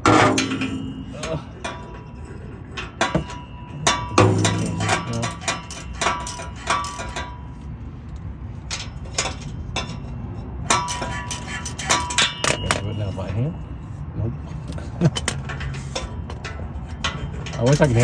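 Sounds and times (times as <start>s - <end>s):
metal tools clinking: 0.0s - 18.0s.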